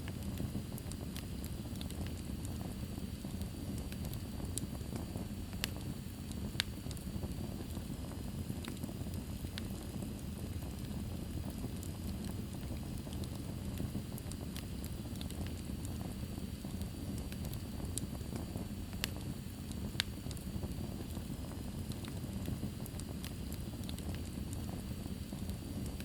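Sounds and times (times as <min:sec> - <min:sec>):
flames rushing: 0:00.0 - 0:26.0
logs crackling and popping: 0:00.0 - 0:26.0.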